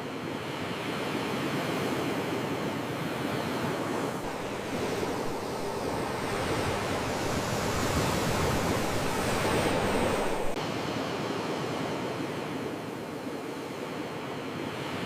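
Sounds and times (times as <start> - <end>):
sea waves washing on shore: 1.2 - 15.0.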